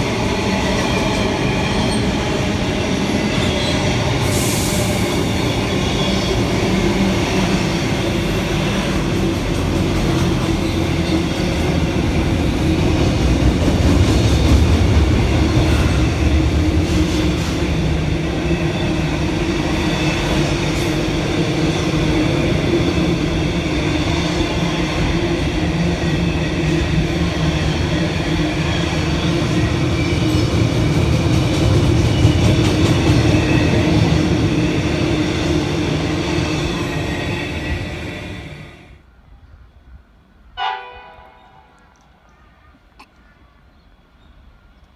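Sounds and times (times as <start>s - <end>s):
train rumbling: 0.0s - 39.2s.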